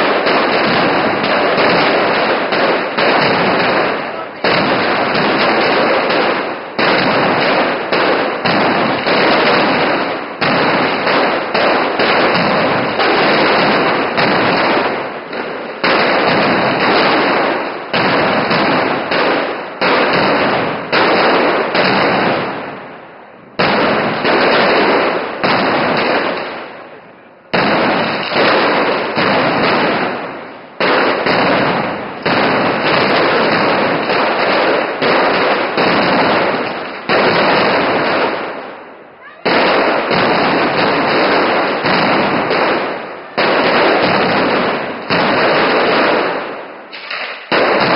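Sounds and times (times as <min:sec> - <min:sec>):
firecrackers banging rapidly: 0:00.0 - 0:47.9.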